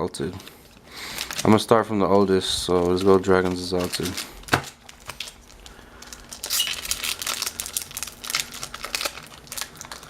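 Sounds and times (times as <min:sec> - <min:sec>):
foil wrapper crinkling and tearing: 0:00.2 - 0:10.0.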